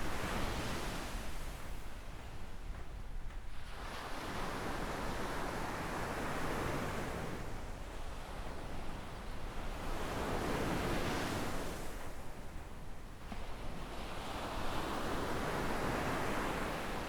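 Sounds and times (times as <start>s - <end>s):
waves washing up a sandy beach: 0.0s - 17.0s.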